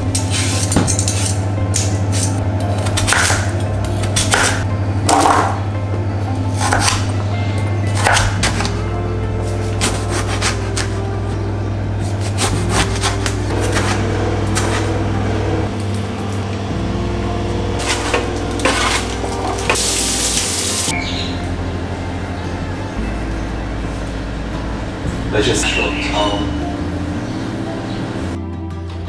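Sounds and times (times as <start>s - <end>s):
soft background music: 0.0s - 29.0s.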